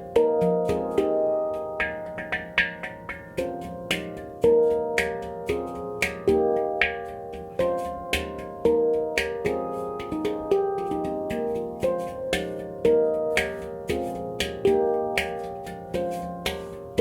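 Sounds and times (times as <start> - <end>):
handpan notes ringing: 0.0 - 17.0.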